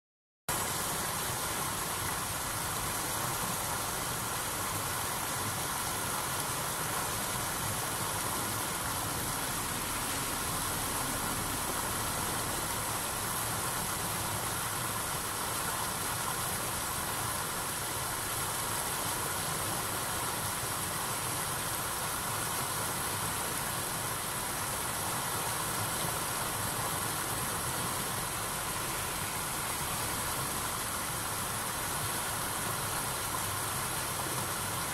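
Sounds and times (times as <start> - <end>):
river water rushing over weir: 0.5 - 34.9.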